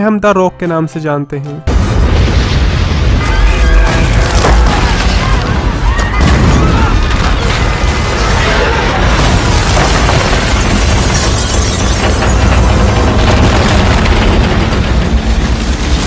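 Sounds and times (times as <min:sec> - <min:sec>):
buildings collapsing: 0:01.7 - 0:16.0
deep earthquake rumbling: 0:01.7 - 0:16.0.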